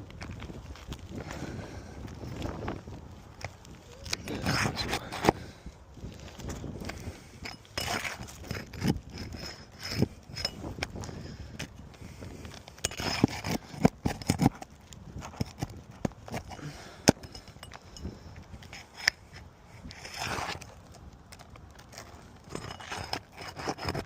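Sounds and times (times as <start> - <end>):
tools scraping asphalt shingles: 3.4 - 24.0.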